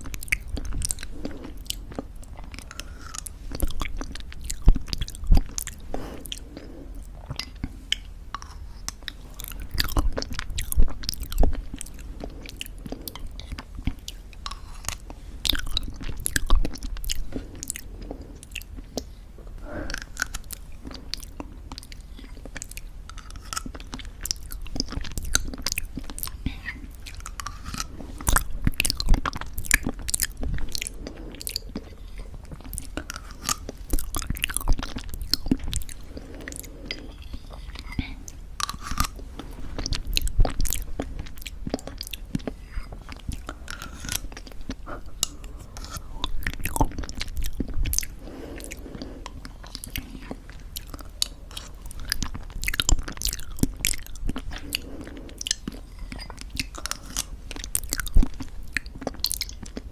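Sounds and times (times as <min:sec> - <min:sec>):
crunchy chewing: 0:00.0 - 0:59.9
wet mouth sounds: 0:00.0 - 0:59.9.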